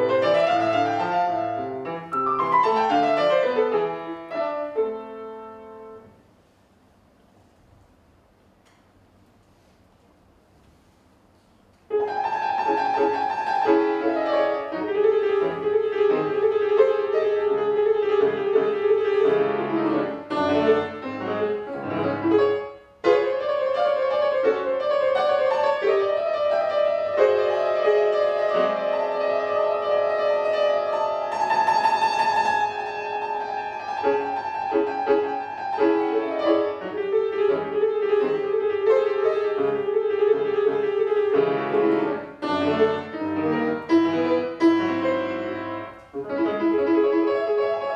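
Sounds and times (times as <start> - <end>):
solo classical piano: 0.0 - 47.9.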